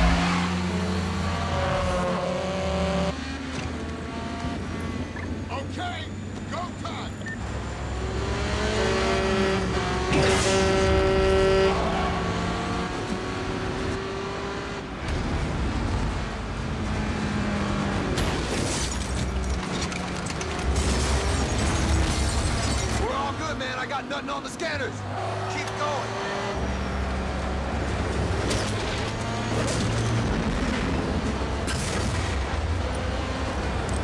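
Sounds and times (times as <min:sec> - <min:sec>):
truck and cars driving fast: 0:00.0 - 0:34.0.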